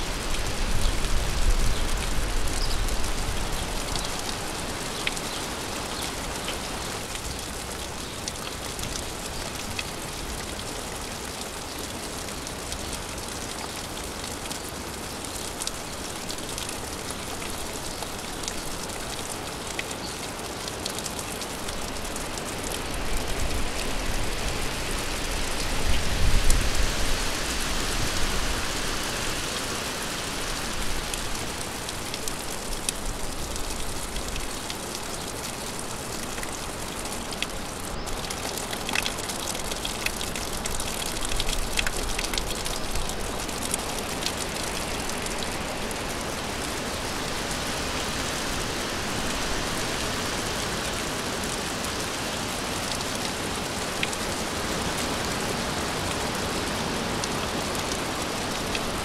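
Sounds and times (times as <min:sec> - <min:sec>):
raindrops ticking on a surface: 0:00.0 - 0:59.0
steady rain falling: 0:00.0 - 0:59.0.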